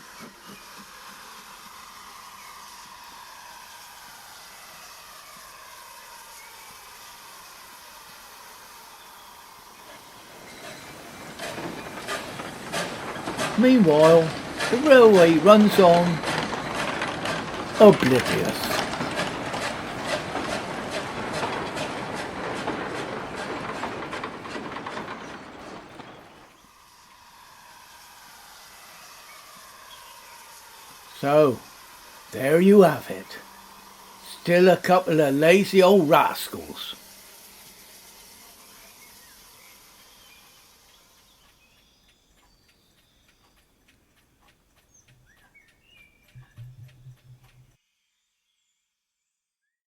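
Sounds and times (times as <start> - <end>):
train wheels clicking over rail joints: 0.0 - 47.8
background hiss: 0.0 - 48.8
faint birdsong: 2.1 - 27.2, 27.9 - 37.0, 38.2 - 49.8.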